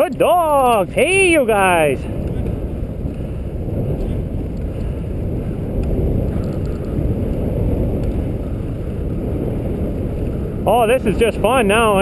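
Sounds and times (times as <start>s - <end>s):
sled runners rumbling on snow: 0.0s - 12.0s
wind on microphone: 0.0s - 12.0s.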